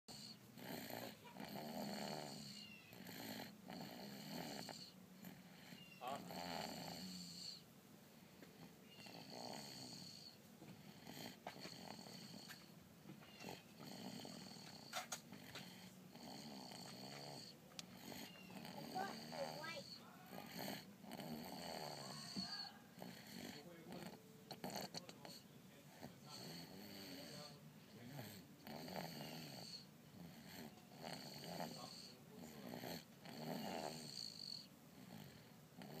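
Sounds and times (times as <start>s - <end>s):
faint snoring: 0.1s - 7.7s, 8.4s - 12.7s, 13.4s - 36.0s.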